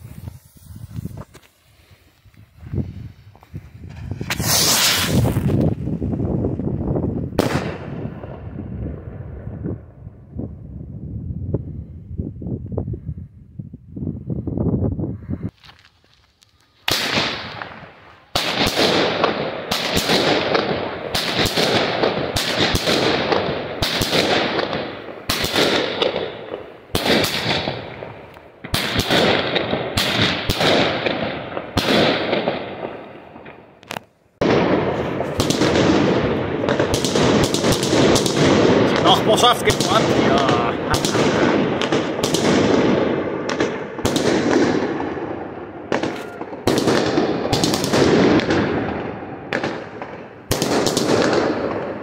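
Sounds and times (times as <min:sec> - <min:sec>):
fireworks bangs and crackle: 0:00.0 - 0:10.5, 0:15.5 - 0:52.0.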